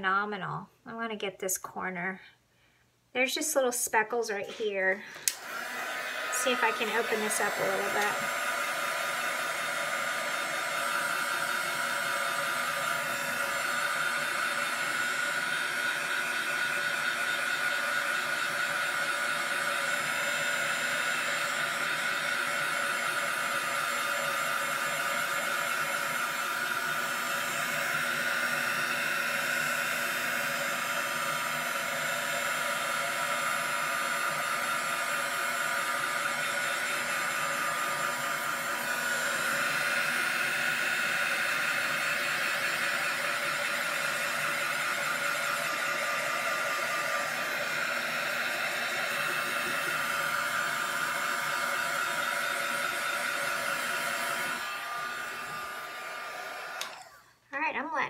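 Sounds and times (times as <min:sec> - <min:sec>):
hair dryer running: 0:03.2 - 0:58.0.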